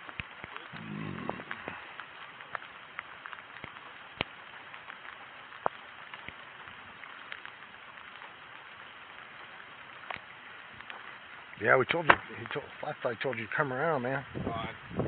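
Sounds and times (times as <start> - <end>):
rain hissing: 0.0 - 15.0
raindrops tapping: 0.0 - 15.0.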